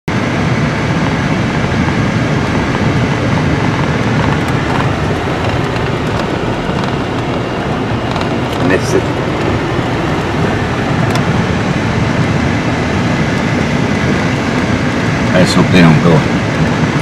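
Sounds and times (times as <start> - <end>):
truck engine and tyres rumbling: 0.1 - 17.0.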